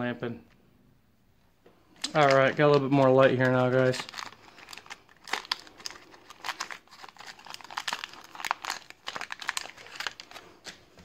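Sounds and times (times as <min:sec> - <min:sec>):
foil wrapper crinkling: 0:02.0 - 0:11.0.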